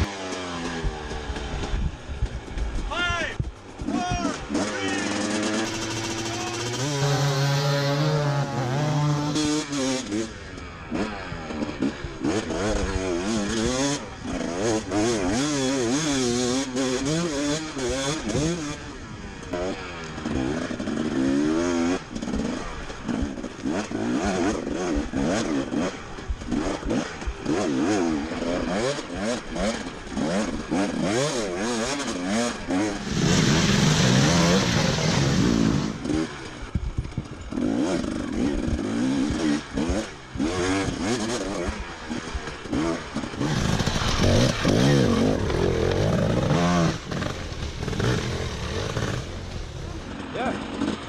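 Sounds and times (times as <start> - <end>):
clattering terrain noise: 0.0 - 51.0
dirt bike engine revving: 0.0 - 51.0.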